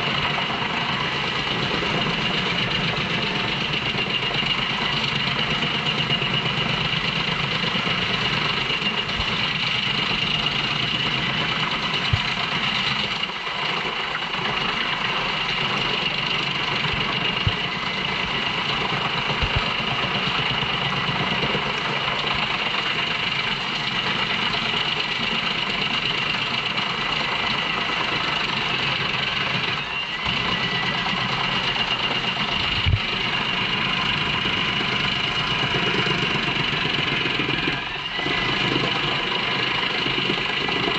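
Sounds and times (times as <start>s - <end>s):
wood chipper running: 0.0s - 40.9s.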